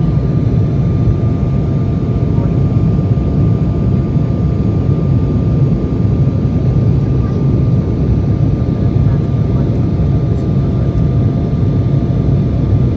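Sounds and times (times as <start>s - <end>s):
jet engines low rumble: 0.0s - 12.9s.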